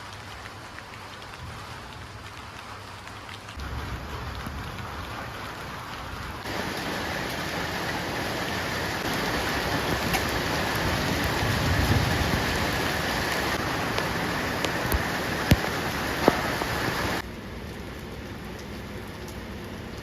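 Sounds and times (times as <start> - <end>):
raindrops ticking: 0.0 - 20.0
steady rain falling: 0.0 - 20.0.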